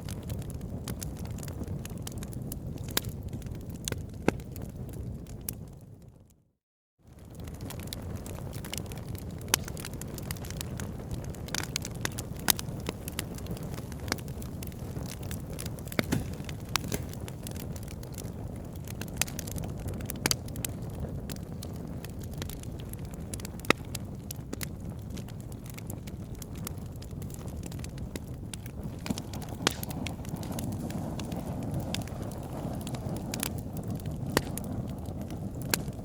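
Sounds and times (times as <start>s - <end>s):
campfire crackling and popping: 0.0s - 6.1s, 7.1s - 36.0s.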